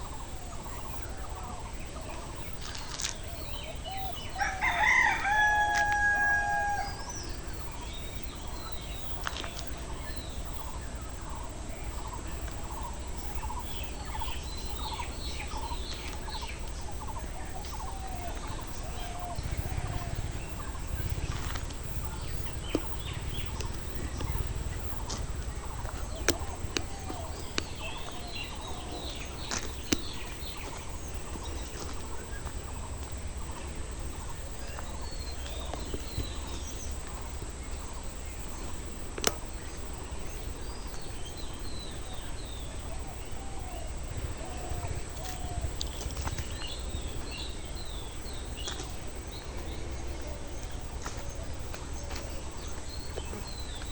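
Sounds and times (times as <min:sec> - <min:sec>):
small birds chirping: 0:00.0 - 0:53.9
steady low rumble: 0:05.2 - 0:53.9.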